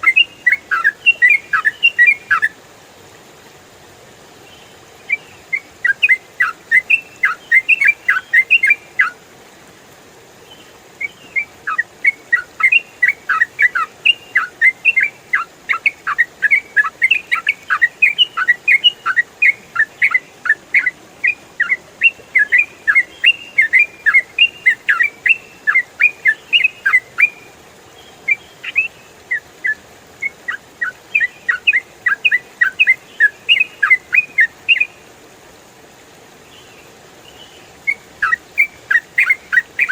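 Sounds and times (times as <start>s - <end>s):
bird chirping song: 0.0s - 2.5s, 4.4s - 9.2s, 10.4s - 35.0s, 36.5s - 39.9s.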